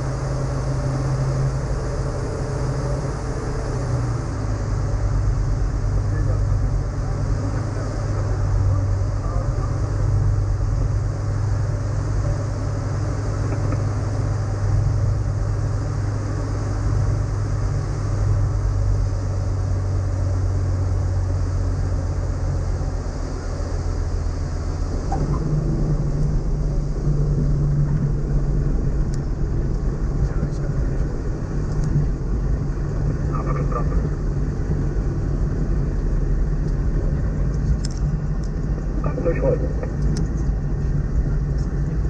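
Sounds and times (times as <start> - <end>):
aircraft engine and propeller drone: 0.0 - 42.0.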